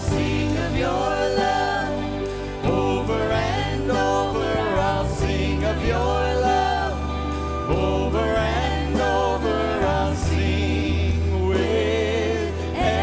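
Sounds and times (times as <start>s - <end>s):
drums: 0.0s - 13.0s
low bass: 0.0s - 13.0s
women singing: 0.0s - 13.0s.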